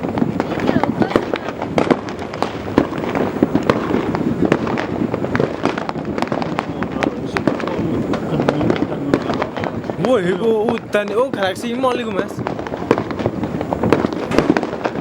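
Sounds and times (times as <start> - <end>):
fireworks bangs and pops: 0.0 - 15.0
rumbling din of fireworks: 0.0 - 15.0.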